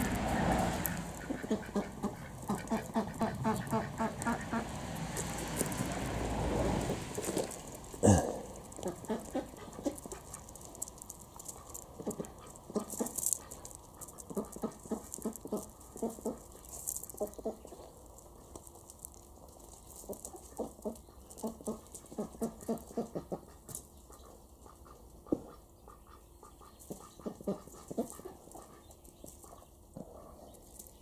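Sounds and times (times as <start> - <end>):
paws and hooves on gravel: 0.0 - 31.0.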